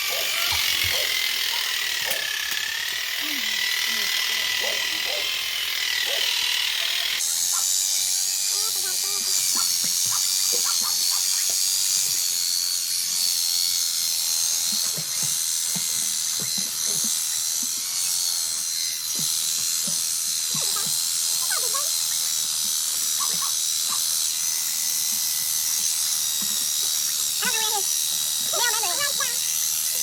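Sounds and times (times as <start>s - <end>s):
electric clippers whining: 0.0s - 30.0s.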